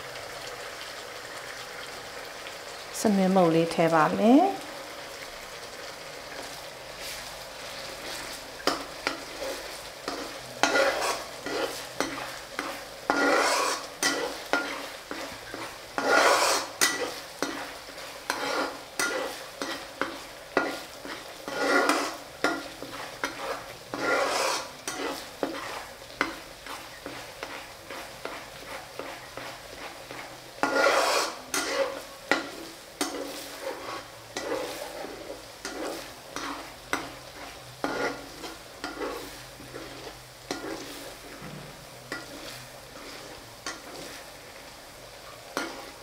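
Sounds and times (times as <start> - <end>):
oil sizzling: 0.0 - 46.0
metal spatula scraping pot: 6.3 - 44.3, 45.4 - 46.0.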